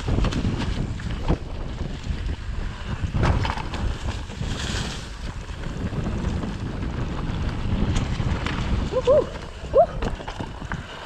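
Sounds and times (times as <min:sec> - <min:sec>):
bike rattling on rough ground: 0:00.0 - 0:11.0
wind buffeting microphone: 0:00.0 - 0:11.0.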